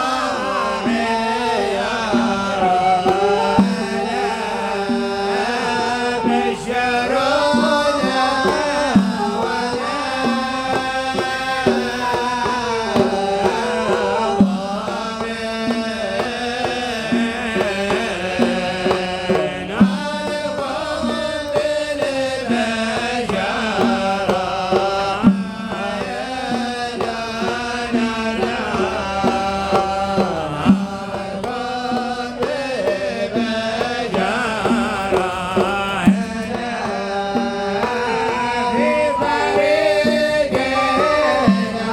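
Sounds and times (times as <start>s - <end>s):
drum strikes: 0.0s - 41.9s
men singing: 0.0s - 41.9s.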